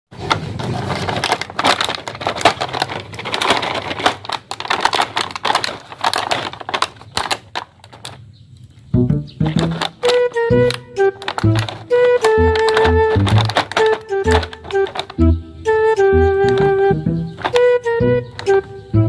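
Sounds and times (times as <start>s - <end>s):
toy packaging rustling and clicking: 0.1s - 18.9s.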